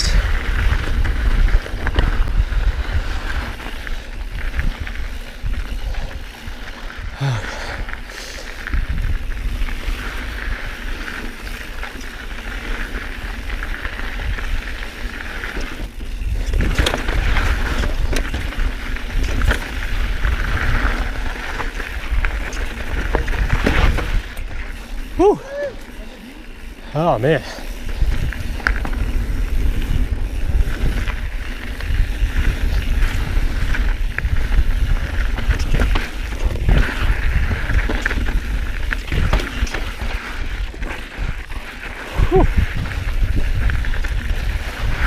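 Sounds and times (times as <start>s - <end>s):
wind buffeting microphone: 0.0s - 25.9s, 27.6s - 45.0s
bike rattling over bumps: 0.0s - 45.0s
tyres on dirt and gravel: 0.0s - 45.0s.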